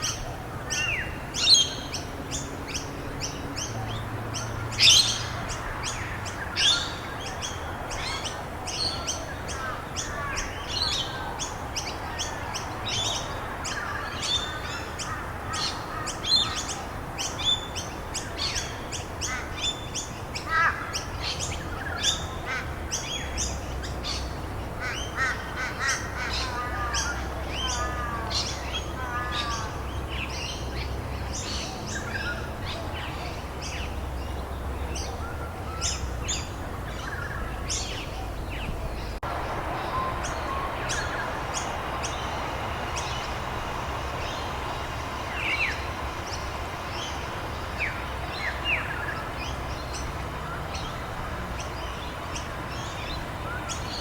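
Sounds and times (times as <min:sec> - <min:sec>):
birds chirping and singing: 0:00.0 - 0:54.0
steady background hiss: 0:00.0 - 0:54.0.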